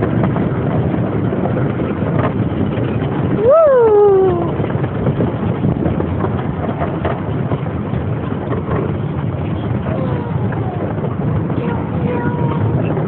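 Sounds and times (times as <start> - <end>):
train cars clicking and knocking: 0.0 - 13.0
train rumbling on track: 0.0 - 13.0.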